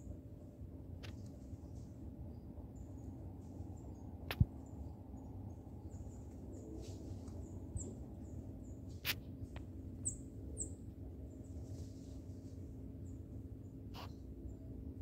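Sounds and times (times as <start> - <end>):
small birds chirping: 1.2 - 14.7.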